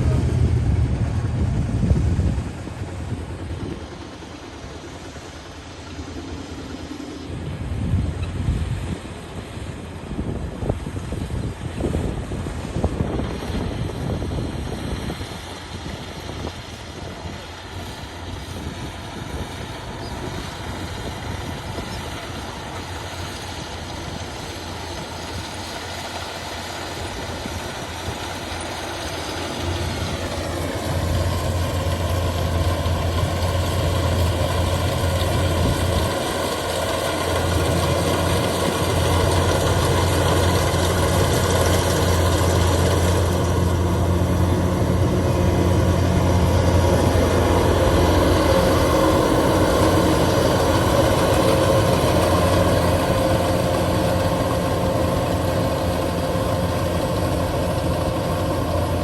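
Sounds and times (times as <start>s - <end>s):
low hum: 0.0s - 11.3s, 18.2s - 59.0s
harvester engine running: 0.0s - 59.0s.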